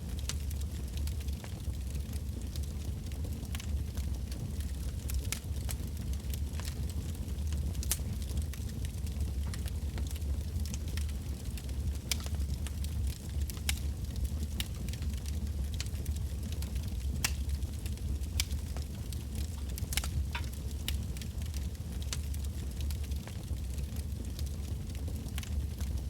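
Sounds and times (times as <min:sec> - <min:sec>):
crackles and pops of burning logs: 0:00.0 - 0:26.0
low rumble of flame: 0:00.0 - 0:26.0.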